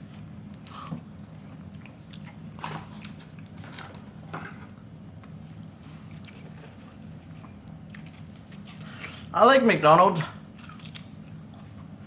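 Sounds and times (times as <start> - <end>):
person chewing food: 0.4 - 9.3, 10.4 - 12.0.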